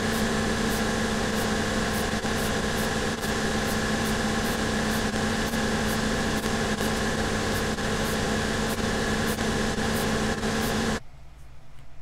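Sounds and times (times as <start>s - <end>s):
sanding machine motor humming: 0.0s - 11.0s.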